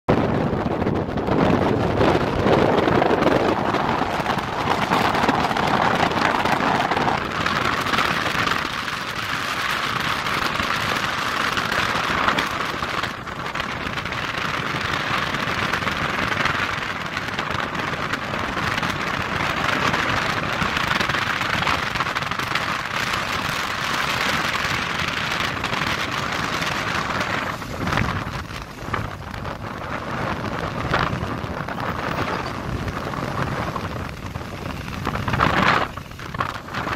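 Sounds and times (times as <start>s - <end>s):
wind rushing over microphone: 0.0s - 36.9s.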